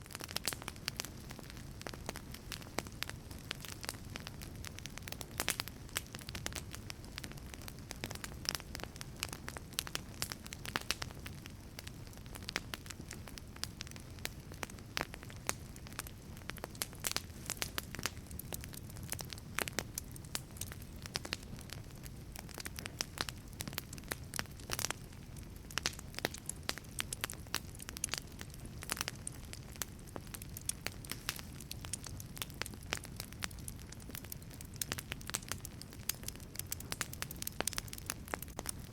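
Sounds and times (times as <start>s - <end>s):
burning logs crackling: 0.0s - 38.9s
low rumble of flames: 0.0s - 38.9s.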